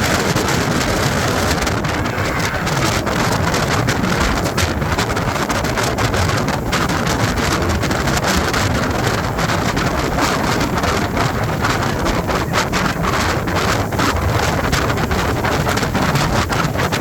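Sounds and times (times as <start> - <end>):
speedboat engine and water rush: 0.0 - 17.0
wind buffeting microphone: 0.0 - 17.0.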